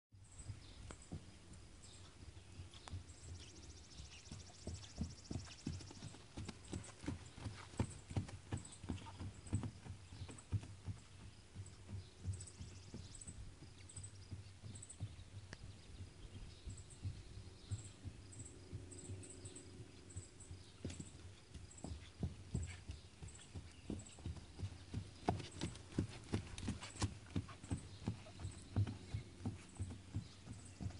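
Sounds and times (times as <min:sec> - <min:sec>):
horse hooves on grass: 0:00.2 - 0:30.9.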